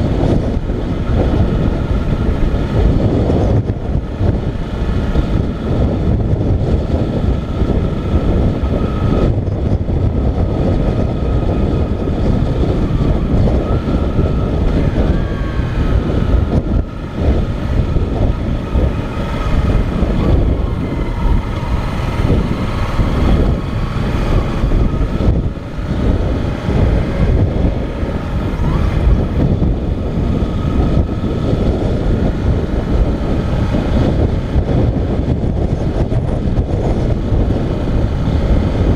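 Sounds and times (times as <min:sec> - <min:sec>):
motorcycle engine: 0:00.0 - 0:38.9
wind rush over microphone: 0:00.0 - 0:38.9.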